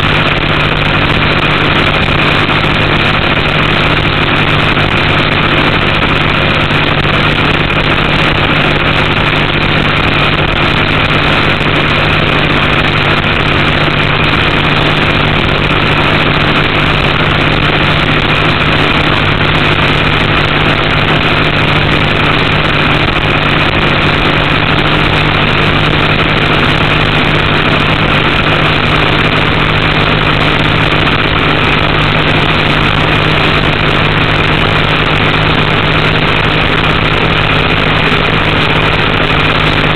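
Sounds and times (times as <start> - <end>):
boat engine running steadily: 0.0 - 39.9.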